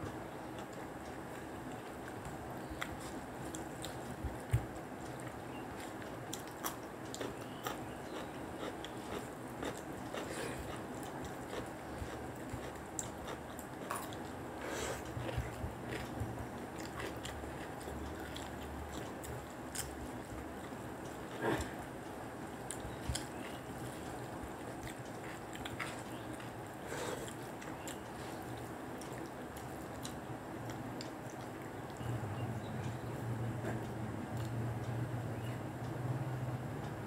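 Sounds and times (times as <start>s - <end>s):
people chewing and biting: 0.4s - 32.2s.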